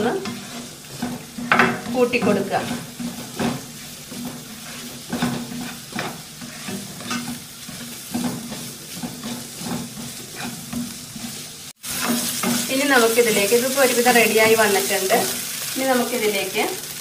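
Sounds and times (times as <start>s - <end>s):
spatula scraping a pan: 0.0s - 15.8s
chicken and vegetables sizzling: 0.0s - 17.0s.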